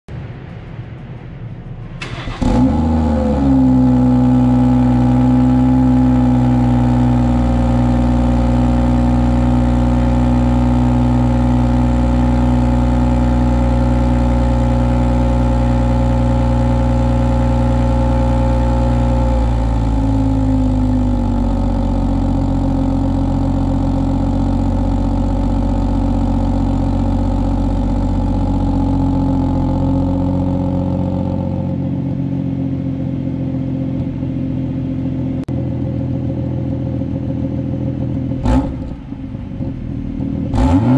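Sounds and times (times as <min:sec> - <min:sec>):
car engine idling: 0:00.1 - 0:40.9.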